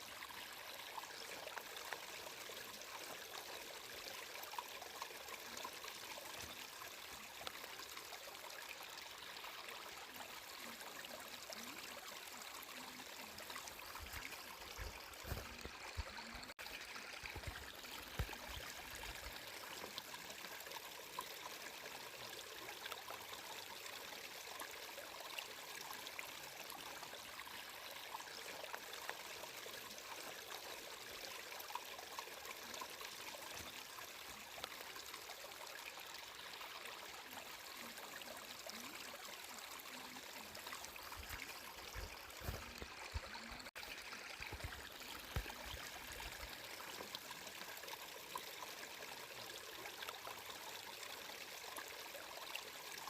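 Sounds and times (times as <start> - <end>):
stream water flowing: 0.0 - 53.0.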